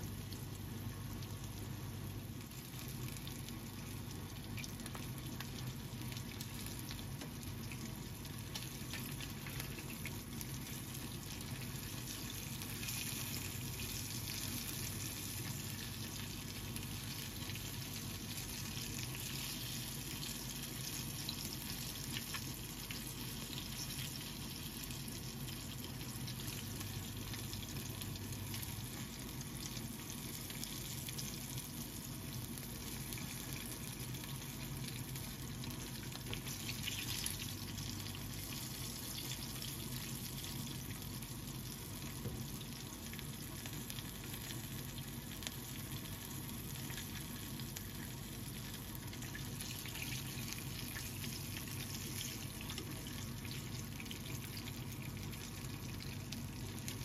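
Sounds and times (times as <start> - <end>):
oil sizzling and crackling: 0.0 - 57.0.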